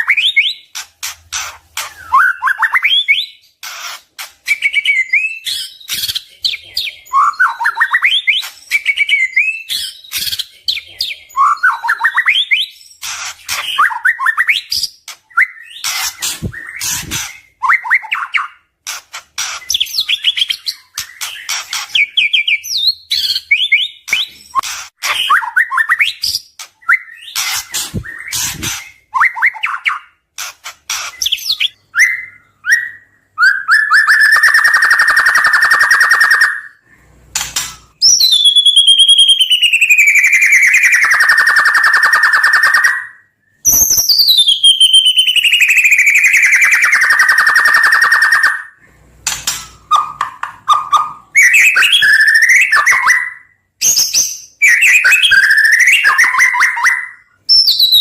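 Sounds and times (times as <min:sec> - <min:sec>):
songbird whistling and trilling: 0:00.0 - 0:00.7, 0:01.4 - 0:18.6, 0:19.4 - 0:30.2, 0:31.0 - 0:36.8, 0:37.6 - 0:48.8, 0:49.5 - 0:58.0.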